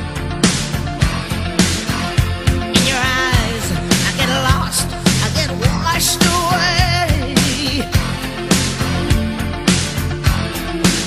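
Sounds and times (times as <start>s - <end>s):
rock song with drum beat: 0.0s - 11.0s.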